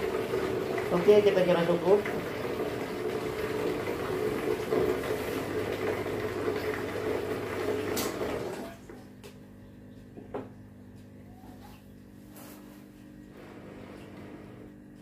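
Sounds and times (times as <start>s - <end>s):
aquarium pumps humming: 0.0s - 15.0s.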